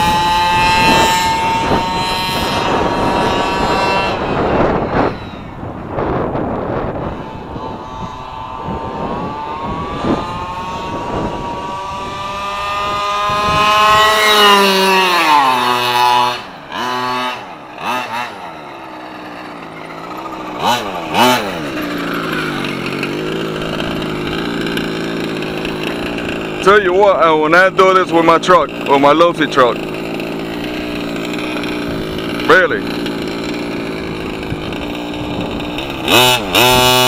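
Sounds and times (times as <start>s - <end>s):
small two-stroke engine revving: 0.0s - 37.0s.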